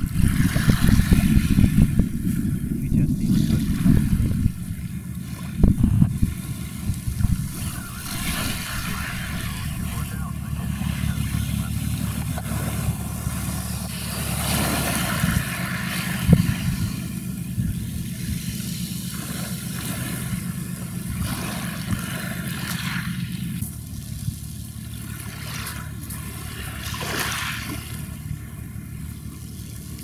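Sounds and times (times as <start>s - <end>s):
ship diesel engine drone: 0.0s - 30.0s
wind and water noise: 0.0s - 30.0s.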